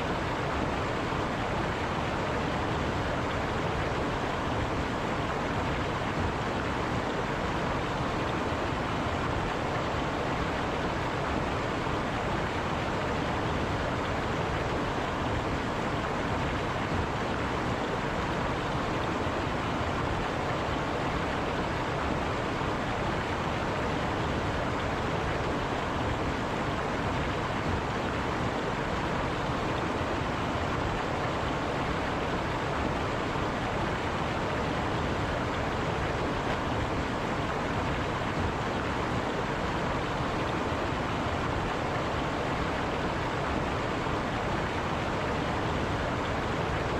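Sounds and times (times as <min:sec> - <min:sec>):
river rushing over rocks: 0:00.0 - 0:46.9.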